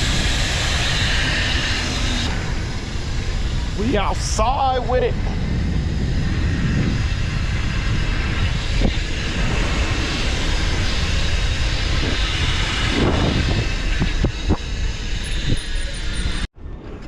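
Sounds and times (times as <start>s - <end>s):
bicycle rolling rumble: 0.0s - 17.0s
wind buffeting microphone: 0.0s - 17.0s.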